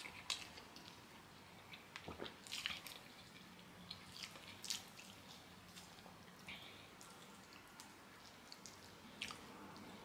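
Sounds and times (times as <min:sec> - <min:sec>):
chewing and wet mouth smacks: 0:01.6 - 0:10.0.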